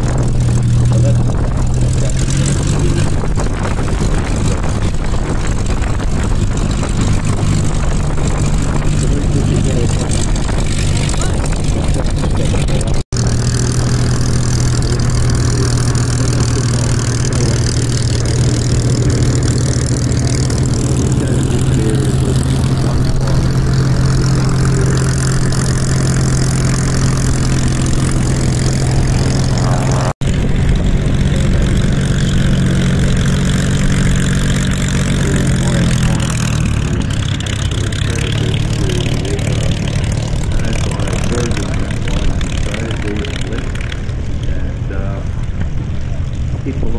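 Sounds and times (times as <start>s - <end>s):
piston aircraft engine running: 0.0s - 46.9s.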